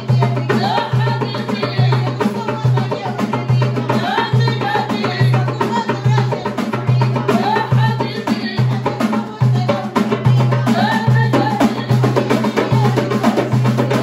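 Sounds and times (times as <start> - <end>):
barrel drum low beats: 0.0 - 14.0
fast clicking percussion: 0.0 - 14.0.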